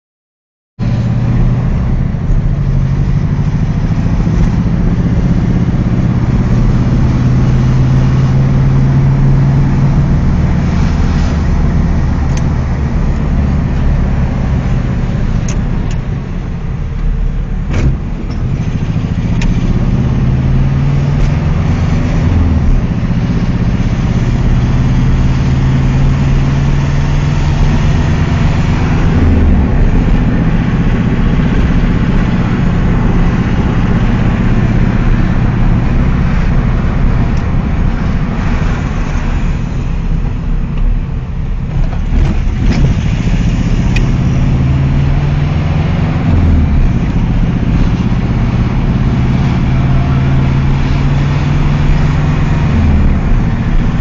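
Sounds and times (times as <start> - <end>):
car engine accelerating through gears: 0.8 - 54.0.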